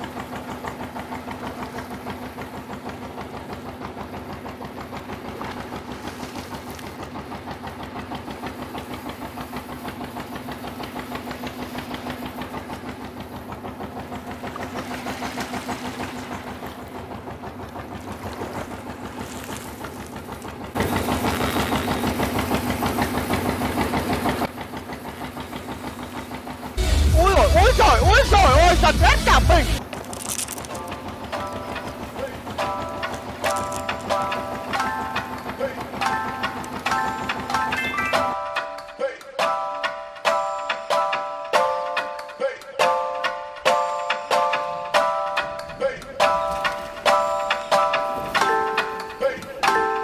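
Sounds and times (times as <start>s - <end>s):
engine running with rapid knocking: 0.0s - 38.3s, 45.4s - 50.0s.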